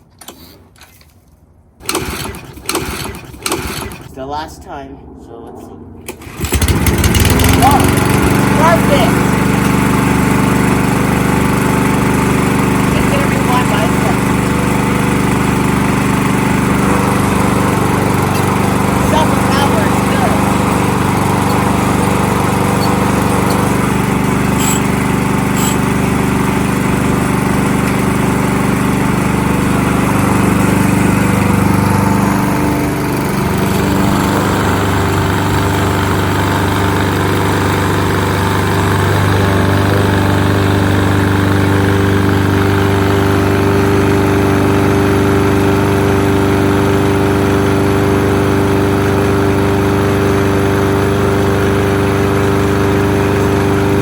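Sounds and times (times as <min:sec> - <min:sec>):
lawn mower engine running: 0:00.0 - 0:04.2, 0:06.0 - 0:54.0.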